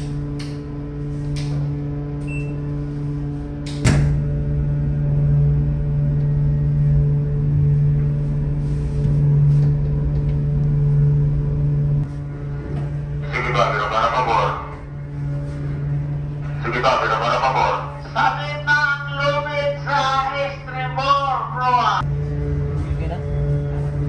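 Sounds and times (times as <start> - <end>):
ship machinery hum: 0.0 - 24.0.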